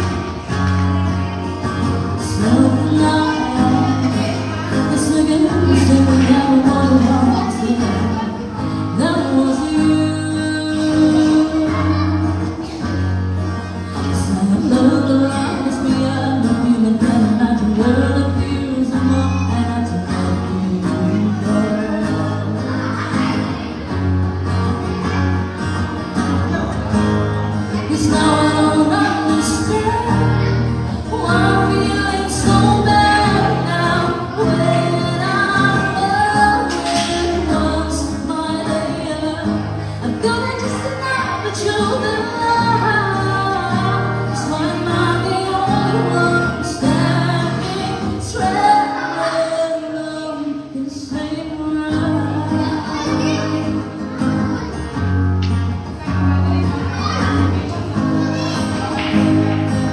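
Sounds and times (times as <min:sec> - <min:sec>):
person singing into microphone: 0:00.0 - 0:25.2, 0:26.5 - 0:59.9
acoustic guitar: 0:00.0 - 0:59.9.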